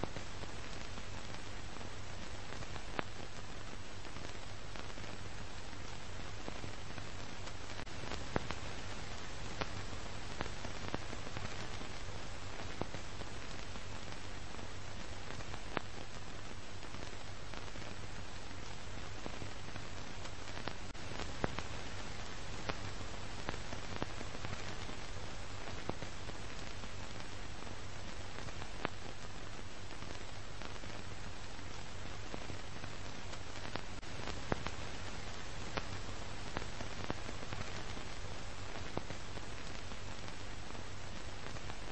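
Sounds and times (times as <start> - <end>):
film soundtrack hiss: 0.0 - 41.9.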